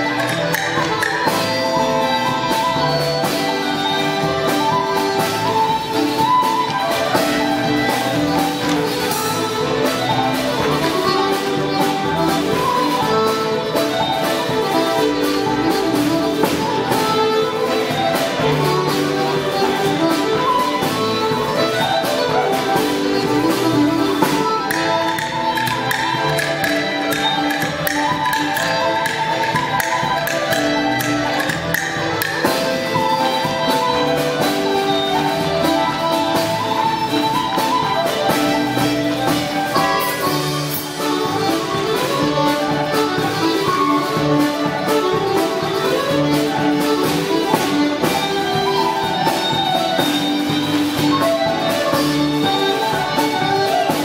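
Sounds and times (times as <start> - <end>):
fiddle: 0.0 - 54.0
folk dance band playing: 0.0 - 54.0.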